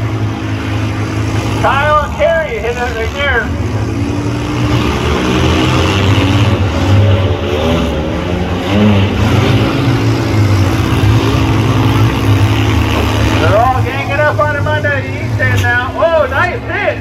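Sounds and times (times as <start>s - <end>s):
engines revving rumble: 0.0s - 17.0s.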